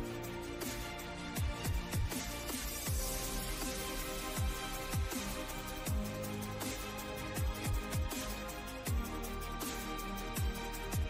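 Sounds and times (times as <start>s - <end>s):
electronic music with sliding bass: 0.0s - 11.0s.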